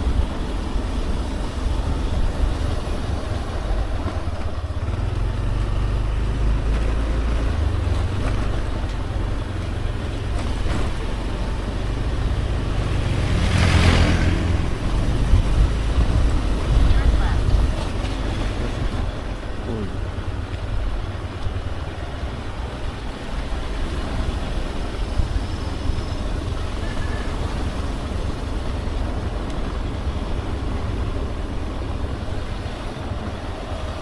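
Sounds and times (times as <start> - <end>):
motorbike engine rumbling: 0.0 - 34.0
wind buffeting microphone: 0.0 - 34.0.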